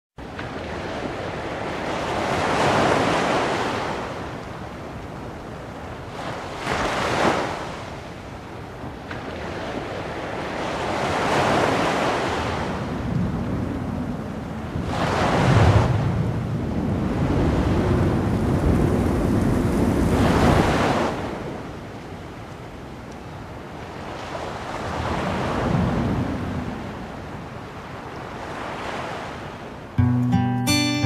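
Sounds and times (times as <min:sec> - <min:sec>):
ocean waves washing: 0:00.2 - 0:31.0.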